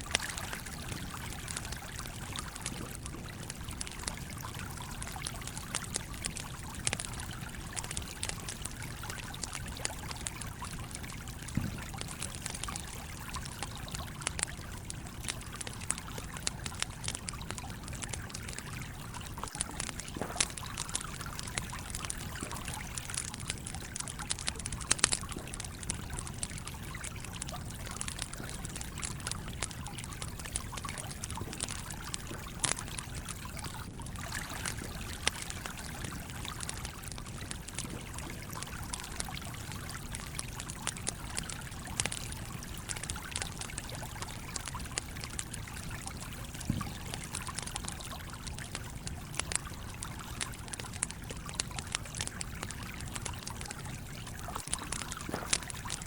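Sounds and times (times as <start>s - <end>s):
campfire crackling and popping: 0.0s - 56.0s
stream trickling: 0.0s - 56.0s.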